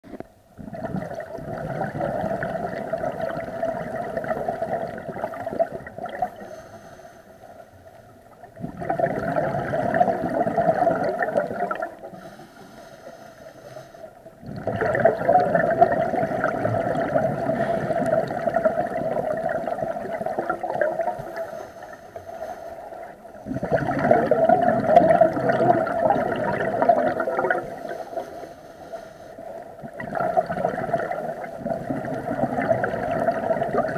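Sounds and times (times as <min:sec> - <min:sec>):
underwater bubbles gurgling: 0:00.0 - 0:33.9.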